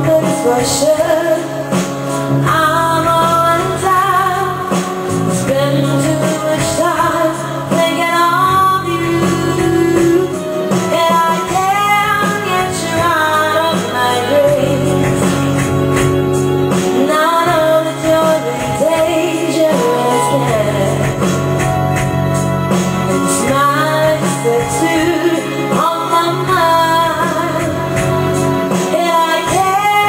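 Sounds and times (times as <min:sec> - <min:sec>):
backing music: 0:00.0 - 0:30.0
woman singing into microphone: 0:00.0 - 0:30.0.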